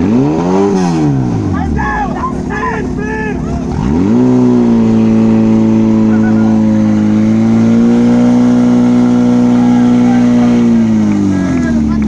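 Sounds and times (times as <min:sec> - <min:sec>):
pump engine at full throttle: 0:00.0 - 0:12.0.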